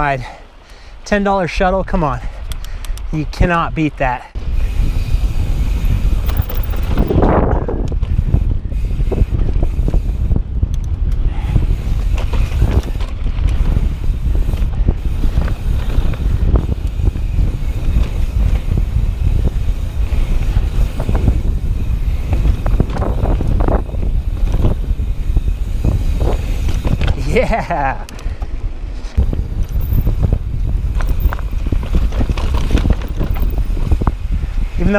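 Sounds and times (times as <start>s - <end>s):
wind buffeting microphone: 1.8s - 34.9s
bike rattling over dirt trail: 4.4s - 34.9s.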